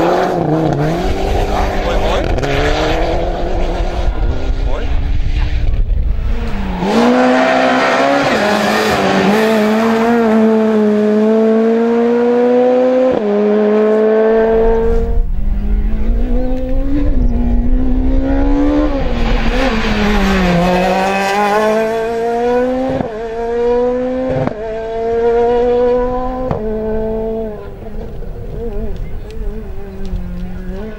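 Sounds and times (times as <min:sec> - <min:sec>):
rally car engines revving: 0:00.0 - 0:30.9.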